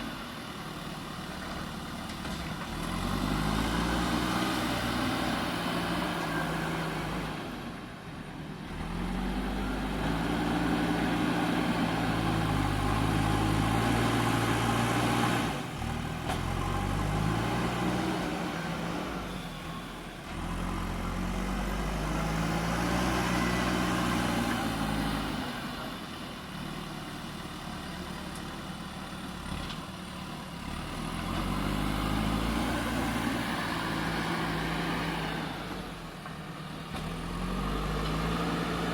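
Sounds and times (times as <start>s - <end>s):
diesel engine revving: 2.6s - 7.8s, 8.6s - 27.6s, 29.3s - 38.9s.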